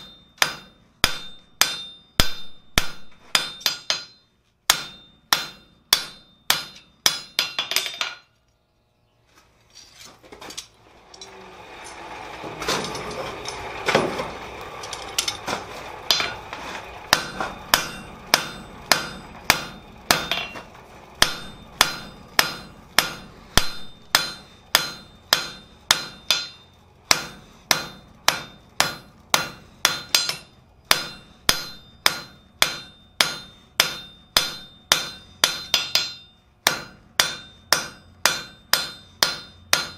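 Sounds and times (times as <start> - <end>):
anvil ringing: 0.0 - 8.3, 12.8 - 39.9
hammer striking hot steel on anvil: 0.0 - 8.3, 12.7 - 39.9.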